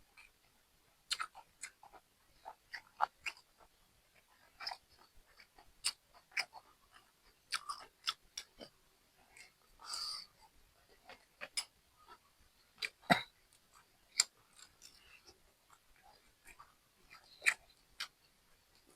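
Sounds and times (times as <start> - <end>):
person chewing and crunching: 1.1 - 18.9.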